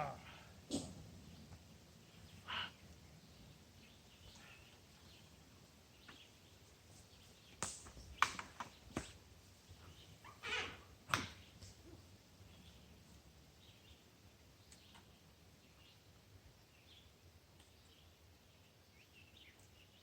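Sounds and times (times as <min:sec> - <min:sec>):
faint steady background noise: 0:00.0 - 0:20.0.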